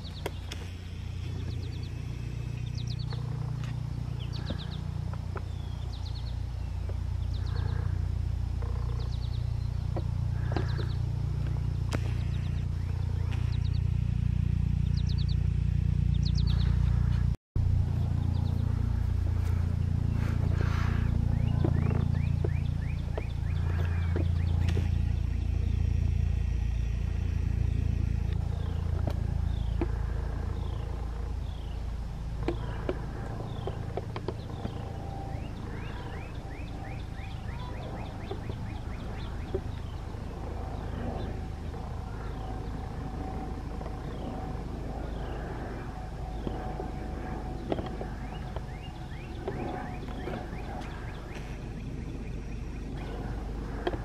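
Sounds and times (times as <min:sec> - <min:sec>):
bird chirps: 0:00.0 - 0:17.3, 0:17.9 - 0:54.0
diesel engine idling: 0:00.0 - 0:54.0
faint steady tone: 0:00.0 - 0:54.0.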